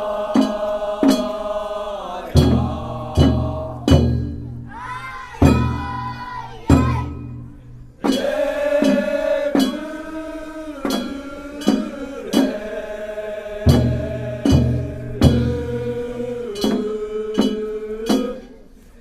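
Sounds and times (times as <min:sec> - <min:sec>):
deep drum beats: 0:00.0 - 0:01.6, 0:02.3 - 0:13.0, 0:13.6 - 0:18.5
sharp percussion strikes: 0:00.0 - 0:01.8, 0:02.4 - 0:04.7, 0:05.4 - 0:18.5
voices singing in unison: 0:00.0 - 0:07.4, 0:08.0 - 0:19.0.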